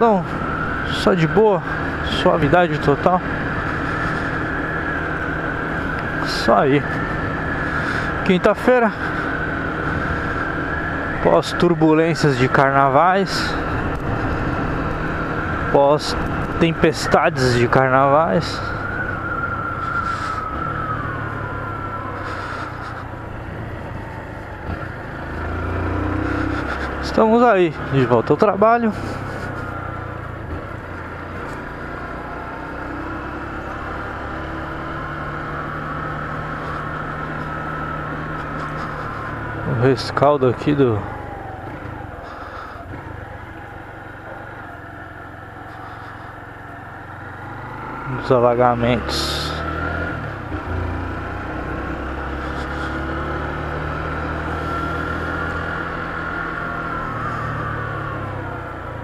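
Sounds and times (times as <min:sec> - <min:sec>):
motorcycle engine running: 0:00.0 - 0:11.2, 0:18.6 - 0:28.0, 0:28.7 - 0:39.8, 0:41.1 - 0:59.0
road and wind noise: 0:00.0 - 0:59.0.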